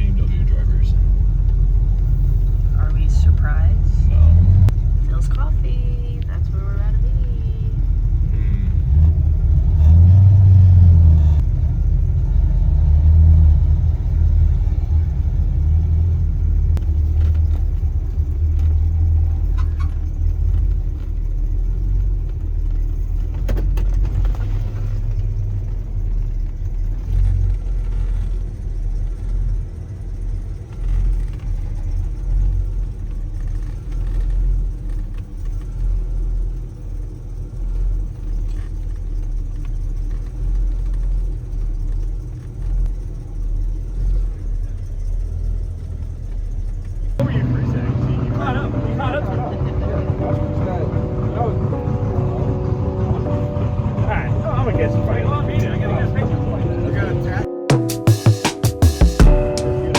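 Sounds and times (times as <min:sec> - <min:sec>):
car engine rumbling: 0:00.0 - 0:59.9
road noise: 0:00.0 - 0:59.9.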